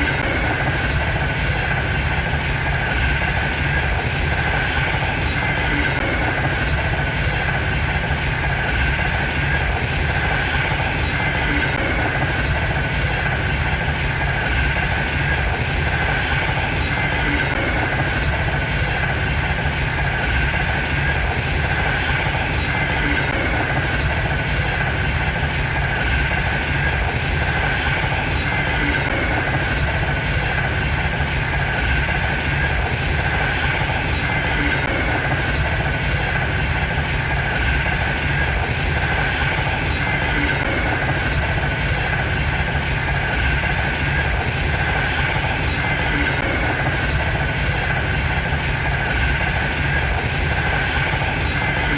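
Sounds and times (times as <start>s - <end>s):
high-speed train rumbling: 0.0s - 51.9s.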